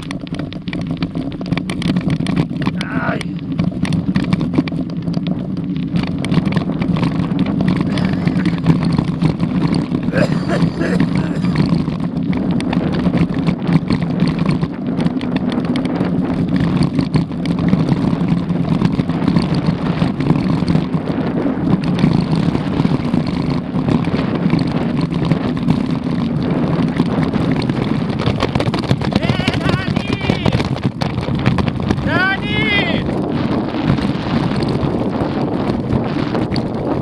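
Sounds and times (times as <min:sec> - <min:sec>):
bike rattling and knocking: 0:00.0 - 0:37.0
bike tyres rumbling on gravel: 0:00.0 - 0:37.0
wind on microphone: 0:00.0 - 0:37.0.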